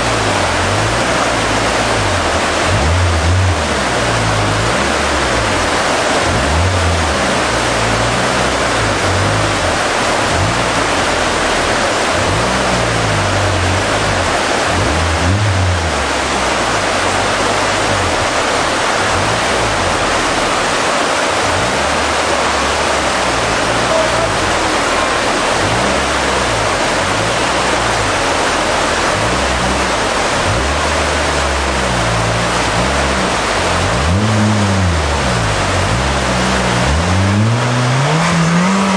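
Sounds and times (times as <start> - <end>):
fast river rushing: 0.0 - 38.9
vehicle engine revving: 0.0 - 38.9.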